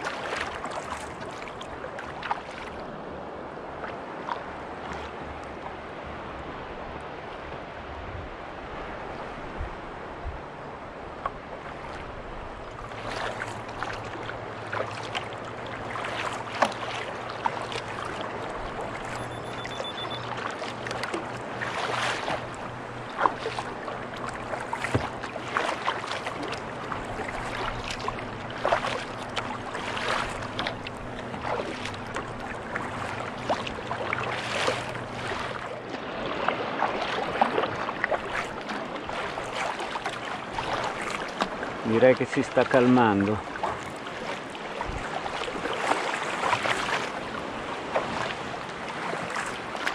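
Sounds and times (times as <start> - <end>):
paddle strokes: 0.0 - 5.8, 8.7 - 49.9
low engine hum: 0.0 - 49.9
wash of sea and wind: 0.0 - 49.9
waves splashing against kayak: 0.0 - 49.9.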